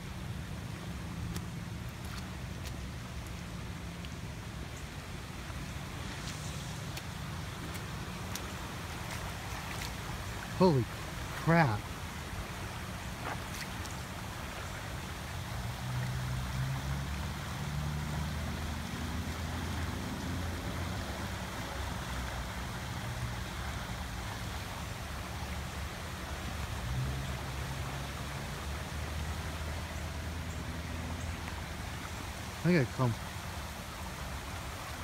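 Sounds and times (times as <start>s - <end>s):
floodwater rushing in creek: 0.0s - 35.0s.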